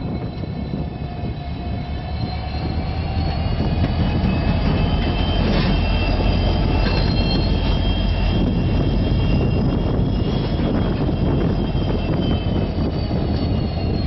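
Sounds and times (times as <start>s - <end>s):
high squeals from running gear: 0.0s - 14.0s
locomotive engine drone: 0.0s - 14.0s
train rumble: 0.0s - 14.0s.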